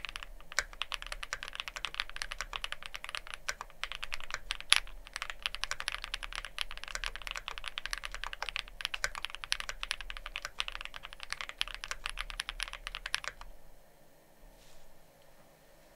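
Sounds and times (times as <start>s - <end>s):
mechanical keyboard typing: 0.0s - 13.5s.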